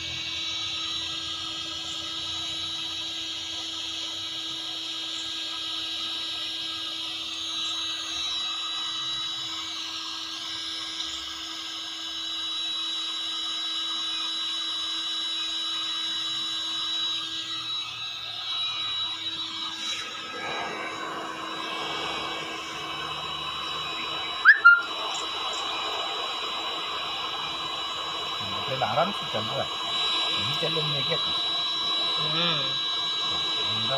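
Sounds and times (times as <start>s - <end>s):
heat gun blowing with whine: 0.0s - 33.9s.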